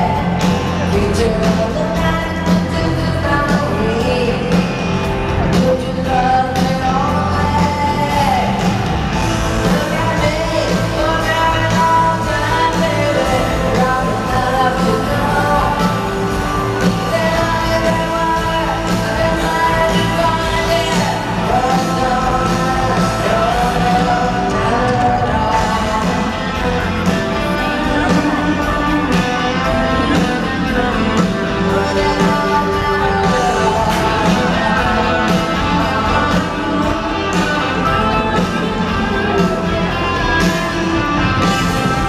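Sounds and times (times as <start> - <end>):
live rock band playing: 0.0 - 42.0
woman singing: 0.0 - 42.0.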